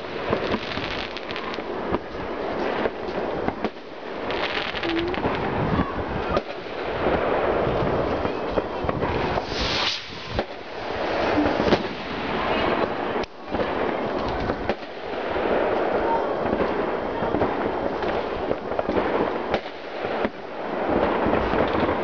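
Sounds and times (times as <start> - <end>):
loud firework hiss: 0.0 - 21.6
fireworks bangs and crackling: 0.0 - 22.0.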